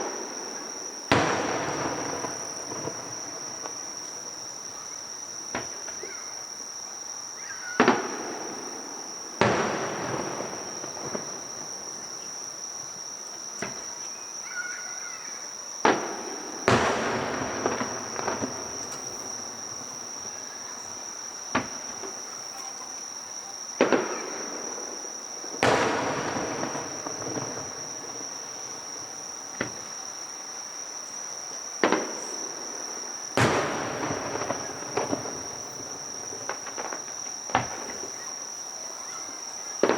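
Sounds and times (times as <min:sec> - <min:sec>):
fireworks bursting with crackling: 0:00.0 - 0:06.2, 0:07.8 - 0:14.0, 0:15.8 - 0:39.9
insects chirring: 0:00.0 - 0:39.9.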